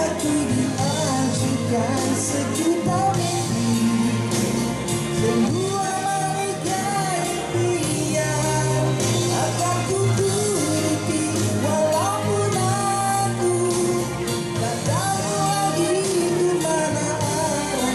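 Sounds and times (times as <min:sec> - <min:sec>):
amplified accompaniment with steady beat: 0:00.0 - 0:17.9
man singing into a microphone: 0:00.0 - 0:17.9.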